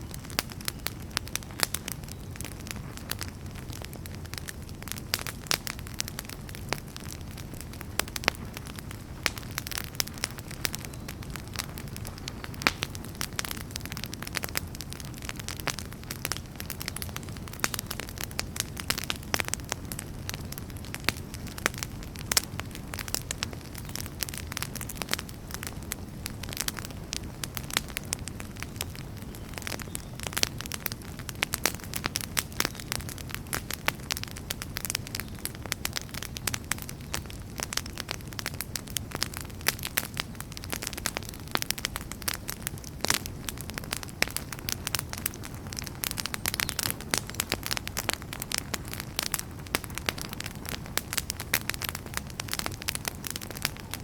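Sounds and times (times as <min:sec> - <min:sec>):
wood fire crackling in fireplace: 0:00.0 - 0:54.0.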